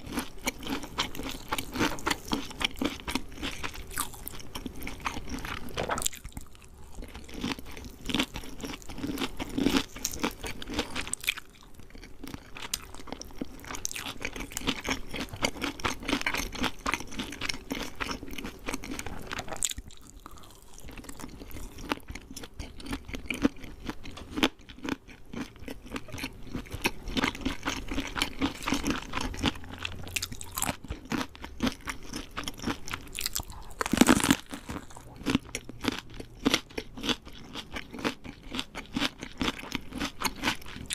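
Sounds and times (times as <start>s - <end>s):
chewing crunchy fried chicken: 0.0s - 40.9s.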